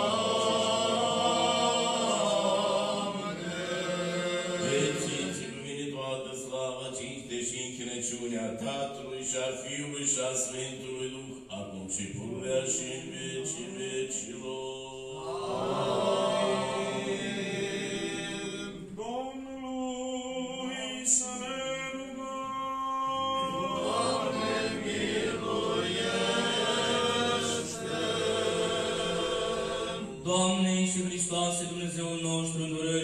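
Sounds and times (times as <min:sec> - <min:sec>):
unaccompanied choral chant: 0:00.0 - 0:33.0.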